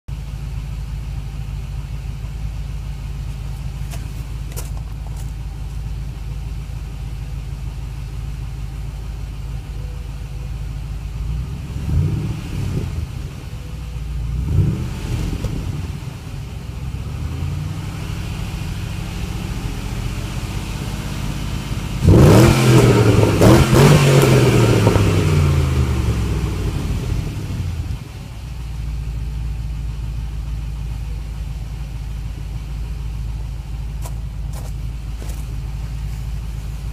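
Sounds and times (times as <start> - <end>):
car engine idling and revving: 0.1 - 36.9.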